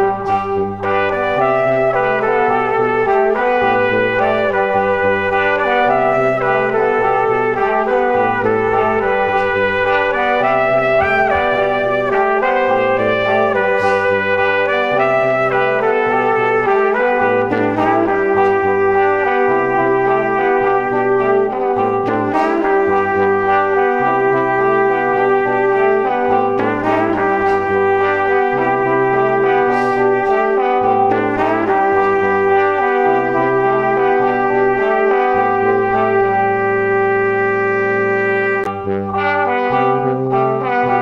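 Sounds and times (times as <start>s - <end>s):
background music with brass melody: 0.0s - 41.0s.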